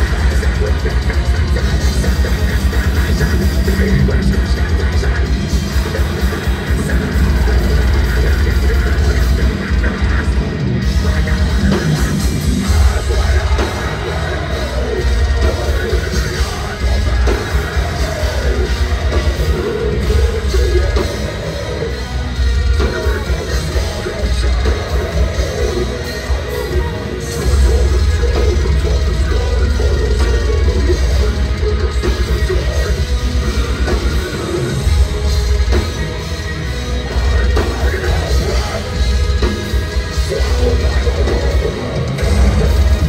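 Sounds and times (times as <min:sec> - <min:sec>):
heavy distorted guitars: 0:00.0 - 0:43.0
pounding drums: 0:00.0 - 0:43.0.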